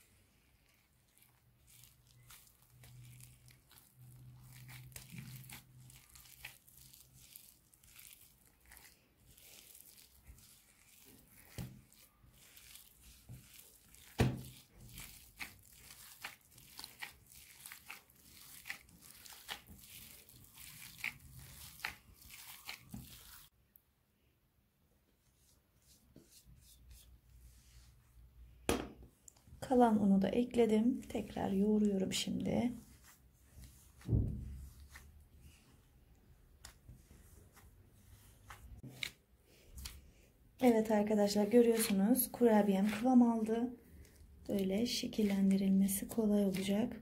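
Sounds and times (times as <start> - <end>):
plastic glove crinkling: 0.0 - 23.5, 30.6 - 47.0
dough squelching: 0.0 - 23.6, 29.3 - 47.0.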